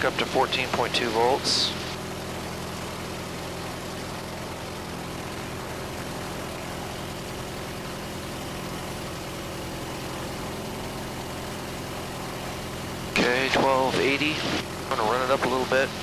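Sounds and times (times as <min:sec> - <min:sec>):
aircraft engine and propeller: 0:00.0 - 0:16.0.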